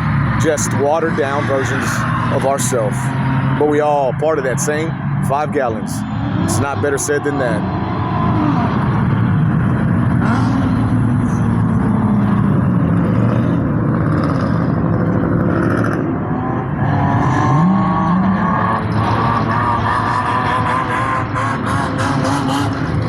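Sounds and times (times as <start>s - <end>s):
car engines running: 0.0s - 23.0s
engine revving up: 0.0s - 23.0s.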